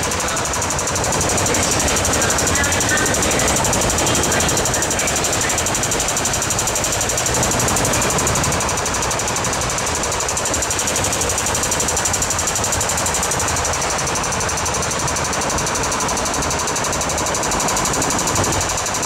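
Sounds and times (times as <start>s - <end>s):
faint steady whine: 0.0s - 19.0s
fast even rattle: 0.0s - 19.0s
trains rushing through station: 0.0s - 19.0s.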